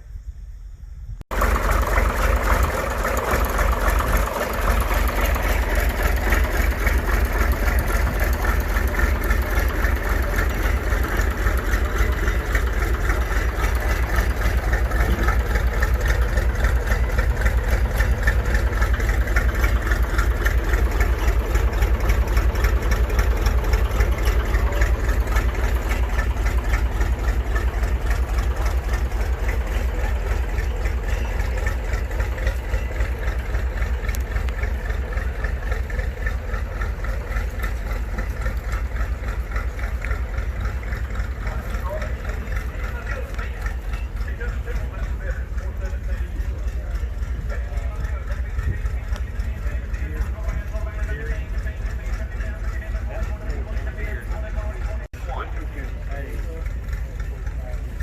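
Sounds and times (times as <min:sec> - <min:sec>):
tractor engine idling: 0:00.1 - 0:58.0.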